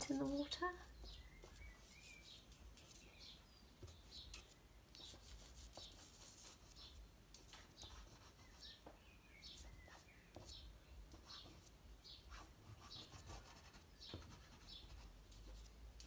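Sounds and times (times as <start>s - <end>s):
pastel stick rubbing on paper: 0.1s - 8.8s, 9.6s - 15.8s.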